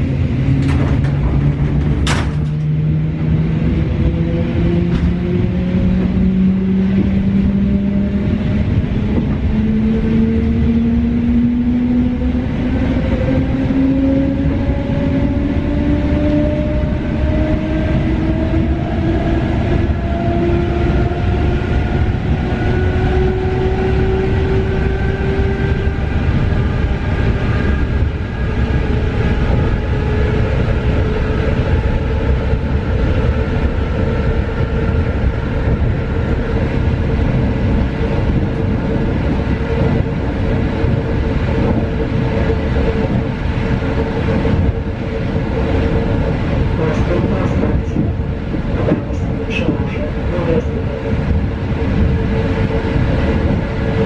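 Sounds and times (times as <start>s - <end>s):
wheels rumbling on track: 0.0s - 54.0s.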